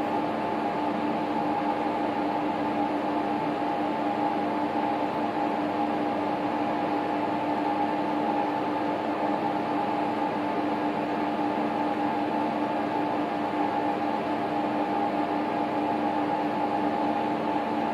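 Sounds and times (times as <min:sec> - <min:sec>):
steady machine hum: 0:00.0 - 0:17.9.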